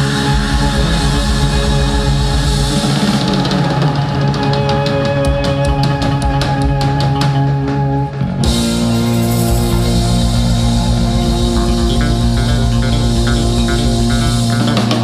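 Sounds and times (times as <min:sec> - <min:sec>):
rock band held chord: 0:00.0 - 0:15.0.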